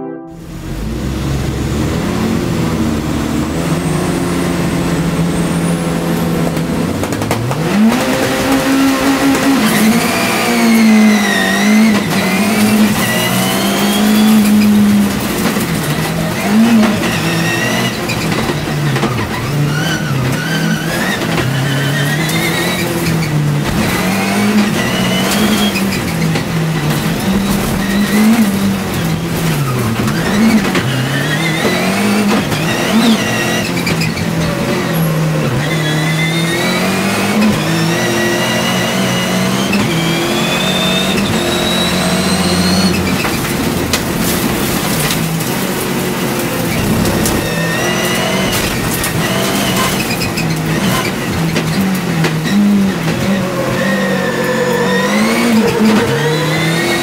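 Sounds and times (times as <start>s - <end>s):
race car engine revving: 0.4s - 57.0s
road noise rushing: 0.4s - 57.0s.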